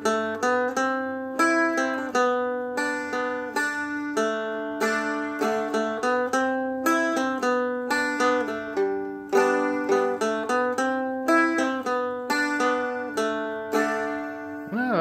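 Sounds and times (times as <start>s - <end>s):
plucked dulcimer melody: 0.0s - 14.8s.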